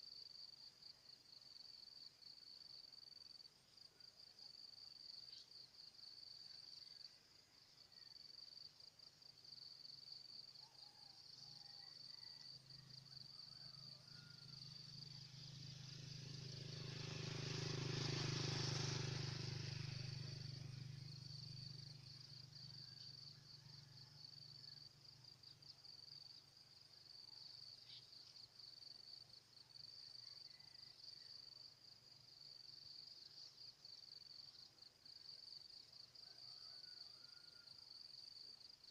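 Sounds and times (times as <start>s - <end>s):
insects trilling: 1.3s - 38.9s.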